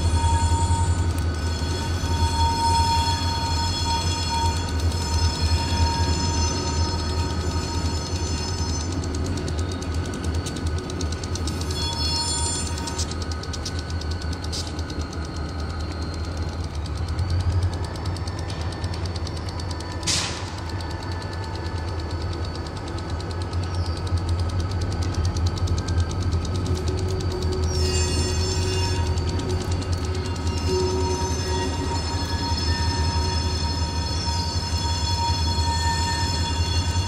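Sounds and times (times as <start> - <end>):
freight train rumbling by: 0.0 - 37.0
steel wheels squealing on rails: 0.0 - 37.0.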